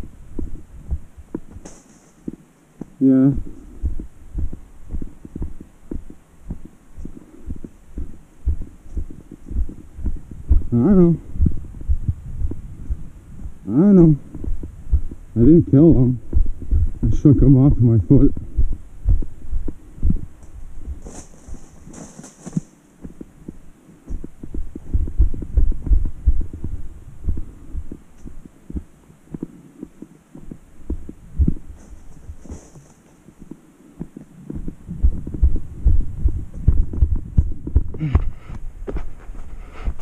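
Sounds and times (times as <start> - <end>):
camera movement thuds: 0.0 - 2.9, 3.5 - 10.7, 11.3 - 15.2, 18.2 - 40.0
footsteps on dirt trail: 0.0 - 40.0.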